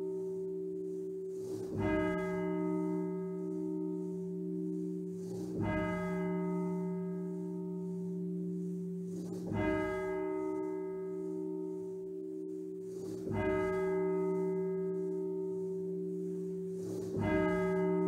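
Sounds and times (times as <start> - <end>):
church bell tolling: 1.7 - 12.6, 13.2 - 18.0.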